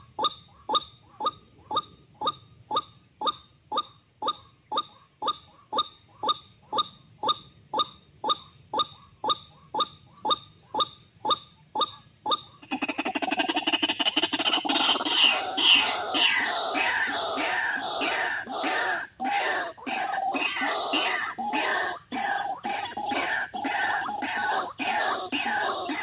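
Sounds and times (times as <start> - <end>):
waterhen calls: 0.0 - 26.0.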